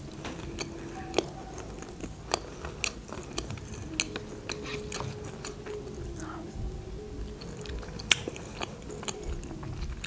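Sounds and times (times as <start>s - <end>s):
wet mouth clicks and smacks: 0.0s - 6.5s, 7.2s - 10.0s
close chewing: 0.0s - 10.0s.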